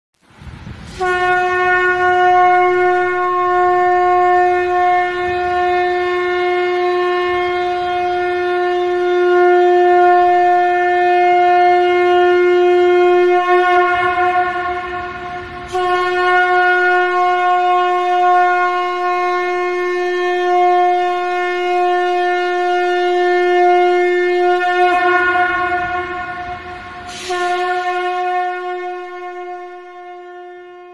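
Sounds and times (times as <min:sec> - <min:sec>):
conch shell blasts: 0:00.9 - 0:30.9.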